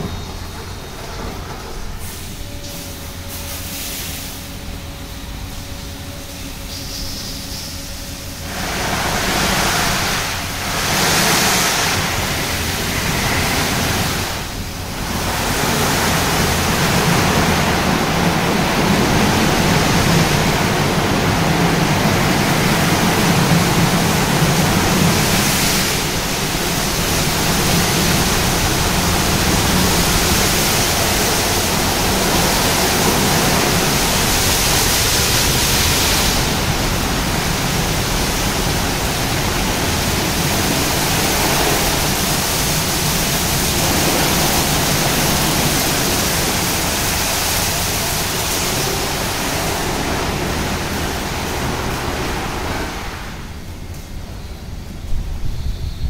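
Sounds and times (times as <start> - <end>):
car wash brushes rushing: 8.2 - 53.7.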